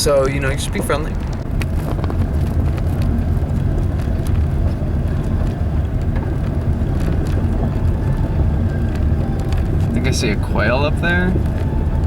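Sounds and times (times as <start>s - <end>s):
vehicle driving on dirt road: 0.0s - 12.0s.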